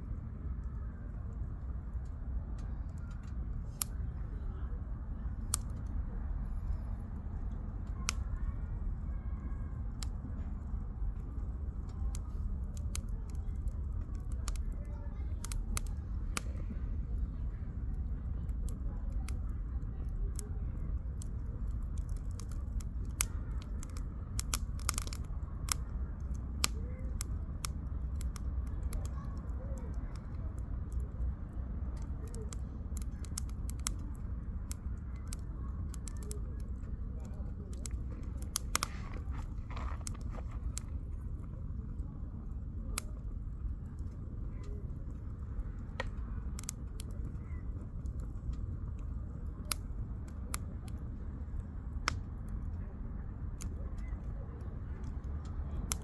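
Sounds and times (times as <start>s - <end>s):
low fire rumble: 0.0s - 56.0s
campfire crackling and popping: 0.1s - 56.0s.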